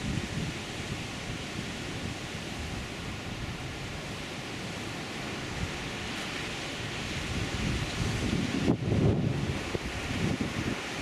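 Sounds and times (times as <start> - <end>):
wind on microphone: 0.0 - 4.1, 5.4 - 11.0.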